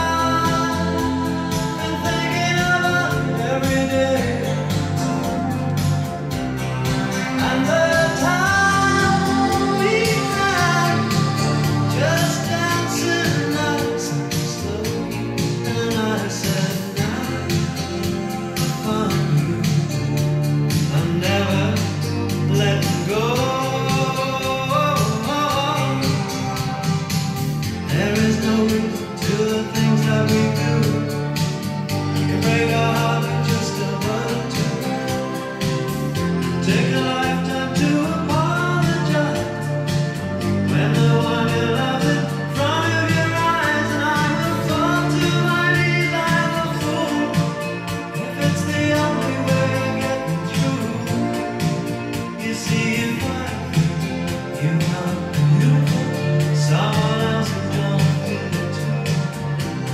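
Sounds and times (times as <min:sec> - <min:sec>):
song with singing bass and beat: 0:00.0 - 0:59.9.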